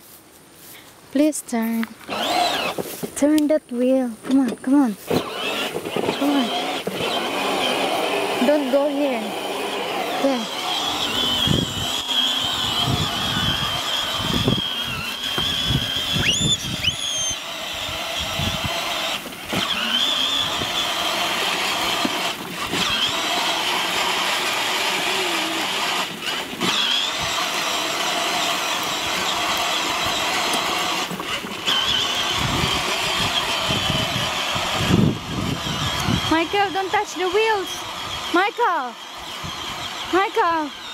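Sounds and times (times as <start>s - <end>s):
electric motor whine: 2.0s - 3.4s, 4.2s - 40.9s.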